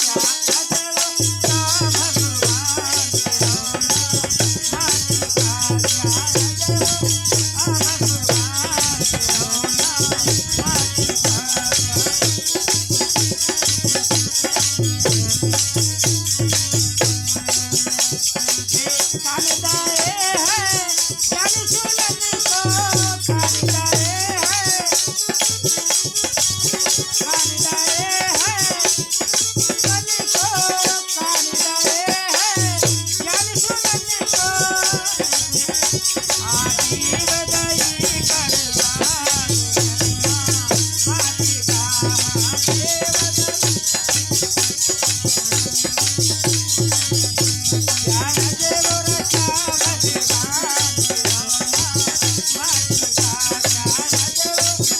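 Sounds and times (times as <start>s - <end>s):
man singing devotional song: 0.0s - 54.9s
shaken hand percussion rattle: 0.0s - 54.9s.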